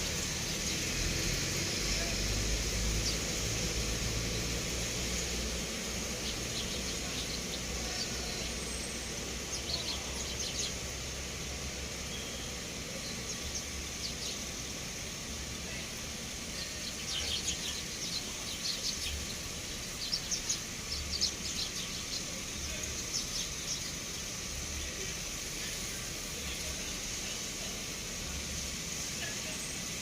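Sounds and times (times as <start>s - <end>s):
sparrows chirping: 0.0s - 30.0s
steady high hiss: 0.0s - 30.0s.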